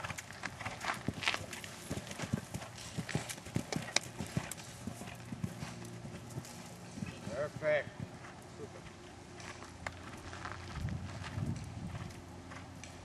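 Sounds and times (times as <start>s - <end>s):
horse cantering on sand: 0.0s - 13.0s.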